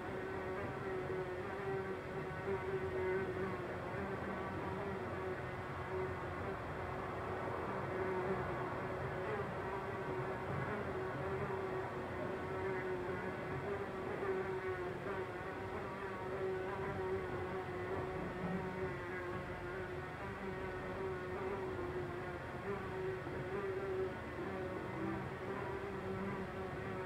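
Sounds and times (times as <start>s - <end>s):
housefly buzzing: 0.0s - 27.0s.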